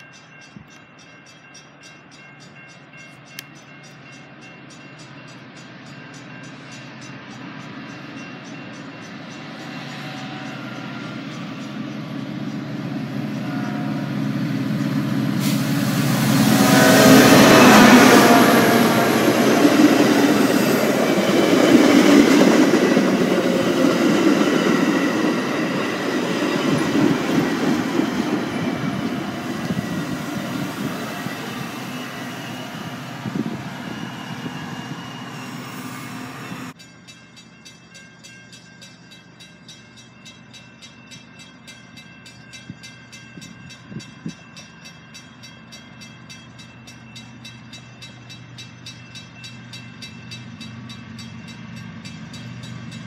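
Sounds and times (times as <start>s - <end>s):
passenger train rolling past: 0.0s - 53.0s.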